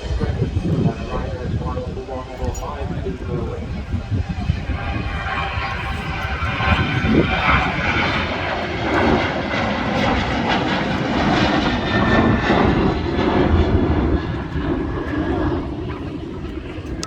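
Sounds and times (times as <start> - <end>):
jet engines roaring at take-off: 0.0 - 17.0.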